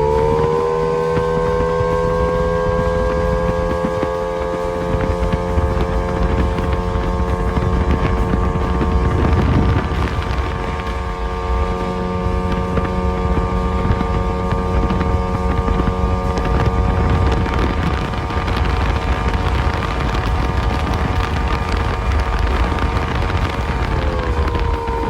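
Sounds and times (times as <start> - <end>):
outboard motor running: 0.0 - 25.0
wind buffeting microphone: 0.0 - 25.0.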